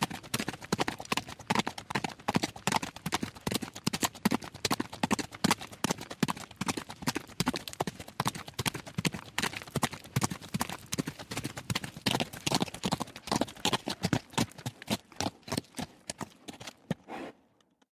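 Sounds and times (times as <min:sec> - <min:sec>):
horse galloping on gravel: 0:00.0 - 0:17.1.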